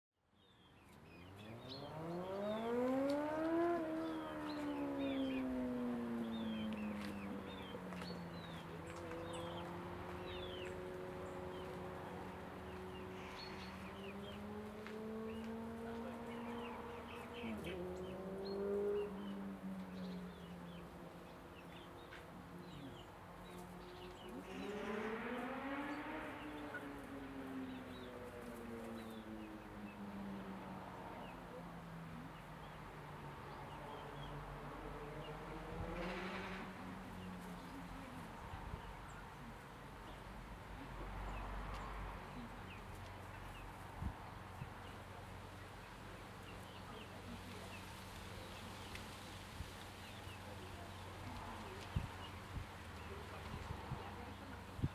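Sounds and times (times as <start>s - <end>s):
small birds chirping: 0.2s - 54.9s
rustle: 0.4s - 54.9s.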